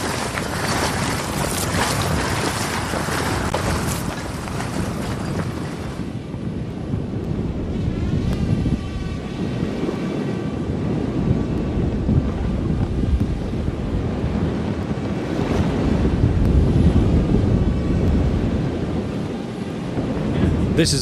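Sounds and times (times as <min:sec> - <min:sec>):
rushing water and waves: 0:00.0 - 0:21.0
wind buffeting microphone: 0:00.0 - 0:21.0.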